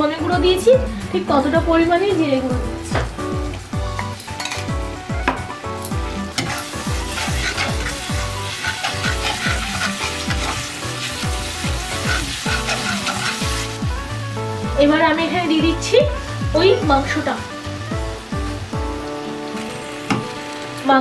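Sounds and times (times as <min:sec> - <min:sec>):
background music with steady beat: 0:00.0 - 0:21.0
food sizzling in a pan: 0:00.2 - 0:21.0.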